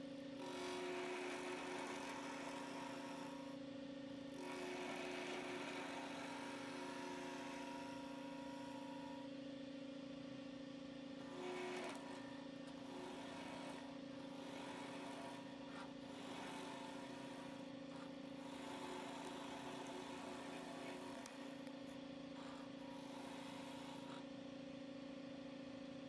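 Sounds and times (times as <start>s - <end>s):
lathe motor hum: 0.0s - 9.4s, 11.1s - 25.5s
turning tool cutting wood: 0.4s - 3.6s, 4.4s - 9.2s, 11.2s - 24.3s.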